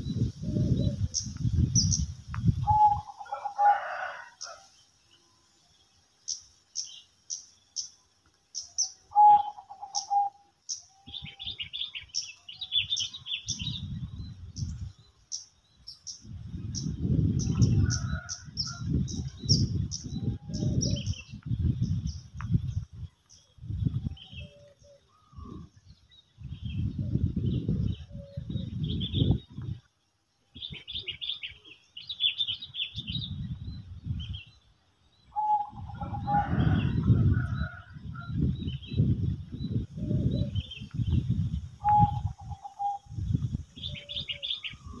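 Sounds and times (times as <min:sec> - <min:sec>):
small birds chirping: 0:00.0 - 0:03.2, 0:04.4 - 0:36.1, 0:38.7 - 0:45.0
wind rumble on microphone: 0:00.0 - 0:04.7, 0:08.6 - 0:45.0.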